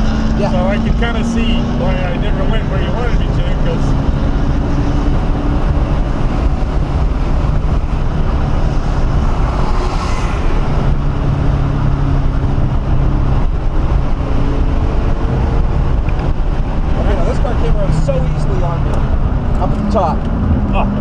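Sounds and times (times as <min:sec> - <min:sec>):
car engine running hard: 0:00.0 - 0:21.0
road noise: 0:00.0 - 0:21.0
wind noise: 0:00.0 - 0:21.0.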